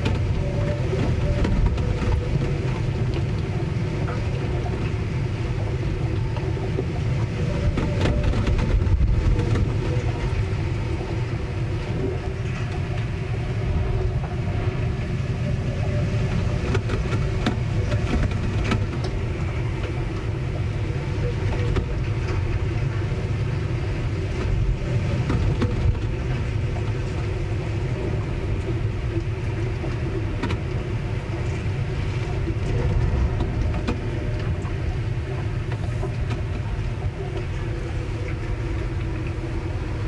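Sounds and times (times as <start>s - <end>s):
continuous low rumble: 0.0s - 40.0s
faint steady hum: 0.0s - 40.0s.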